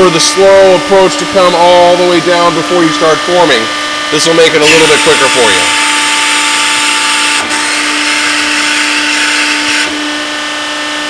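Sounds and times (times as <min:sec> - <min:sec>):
hydraulic flow hissing: 0:00.0 - 0:10.0
hydraulic pump hum: 0:00.0 - 0:11.0.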